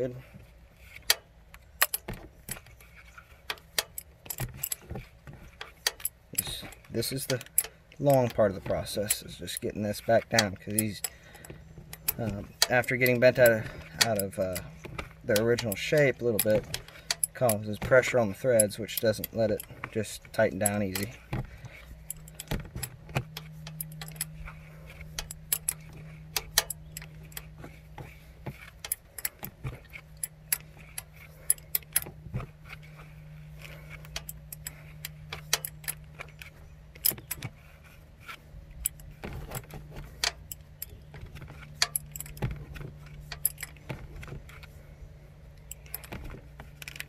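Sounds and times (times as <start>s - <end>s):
steady low hum: 0.0s - 47.0s
wrench clicking on metal: 0.9s - 4.9s, 5.6s - 27.6s, 28.5s - 32.2s, 33.5s - 37.5s, 38.2s - 43.8s, 45.6s - 46.2s.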